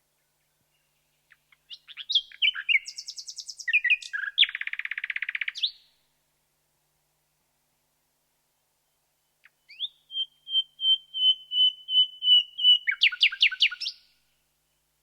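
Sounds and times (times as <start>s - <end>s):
nightingale singing: 0.2s - 5.9s, 8.6s - 15.0s.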